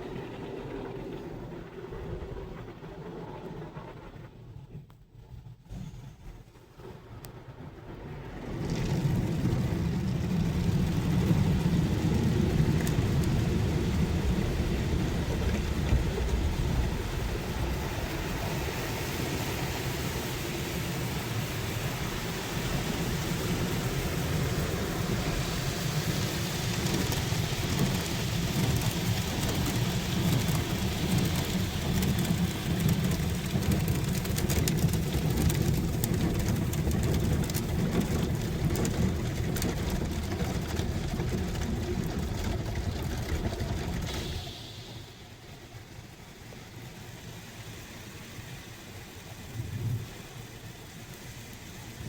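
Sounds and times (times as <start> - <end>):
car wash water spray rushing: 7.9 - 52.0.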